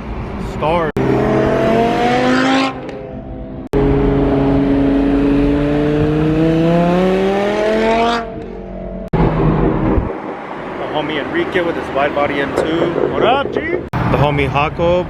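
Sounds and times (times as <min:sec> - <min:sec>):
car engine accelerating: 0:00.9 - 0:14.2.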